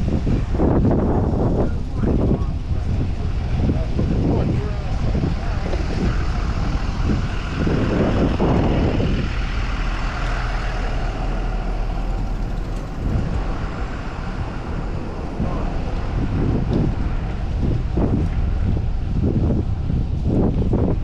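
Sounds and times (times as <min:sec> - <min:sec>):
heavy vehicle passing: 0:00.0 - 0:21.0
road traffic: 0:00.0 - 0:21.0
wind rumbling on microphone: 0:00.0 - 0:21.0.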